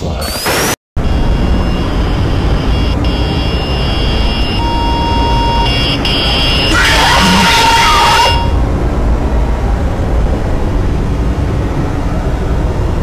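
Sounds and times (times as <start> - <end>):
low rumbling drone: 1.0 - 13.0.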